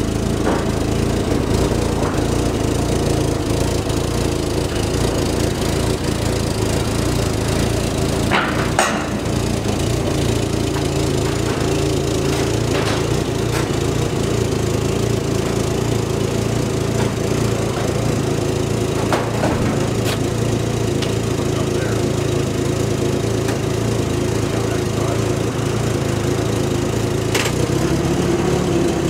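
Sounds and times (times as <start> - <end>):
tug engine running: 0.0 - 29.0.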